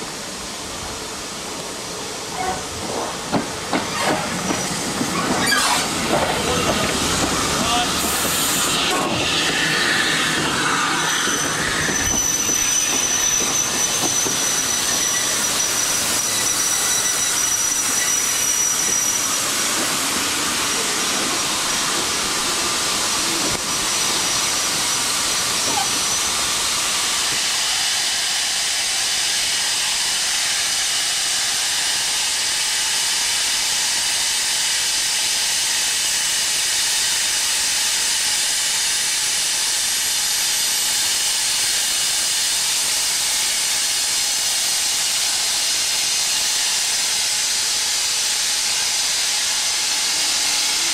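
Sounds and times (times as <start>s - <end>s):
steam hissing: 0.0s - 50.9s.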